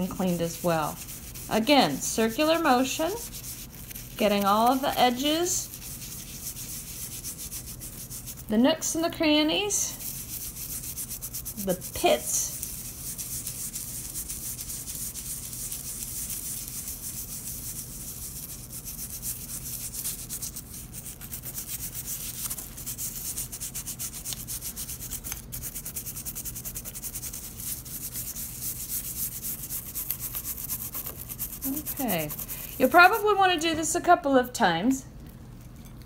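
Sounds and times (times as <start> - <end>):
toothbrush scrubbing metal: 0.0 - 33.7.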